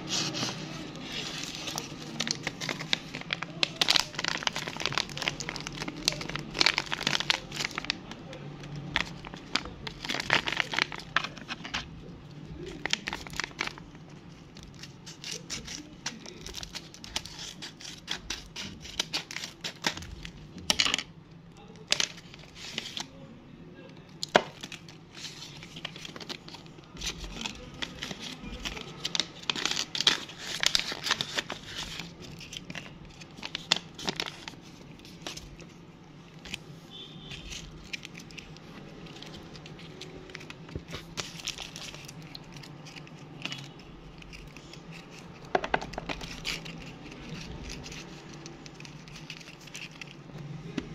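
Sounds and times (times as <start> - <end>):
paper bag crinkled and torn: 0.0 - 23.2, 24.2 - 50.4
paper wrappers rustling: 0.0 - 23.3, 24.2 - 50.9.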